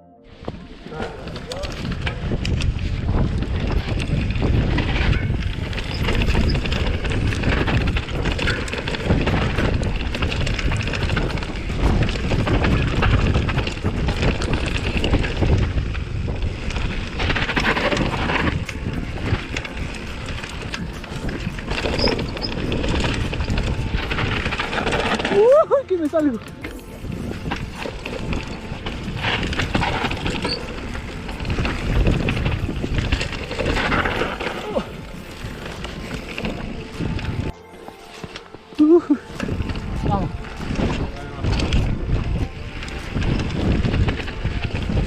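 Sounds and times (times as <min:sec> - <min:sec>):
wind buffeting microphone: 0:00.4 - 0:37.6, 0:39.0 - 0:45.0
bike rattling over bumps: 0:00.4 - 0:45.0
tyres on damp dirt: 0:00.4 - 0:45.0.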